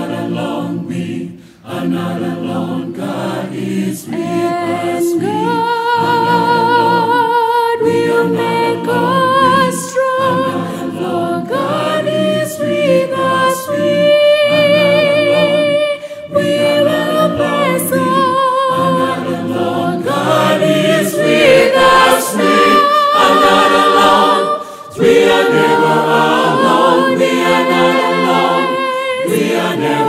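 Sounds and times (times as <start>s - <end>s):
choir singing a cappella: 0.0s - 30.0s.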